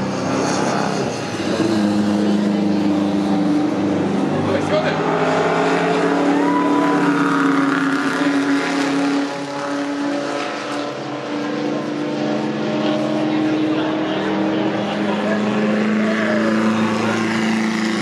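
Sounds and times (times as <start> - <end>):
racing cars passing at speed: 0.0 - 18.0.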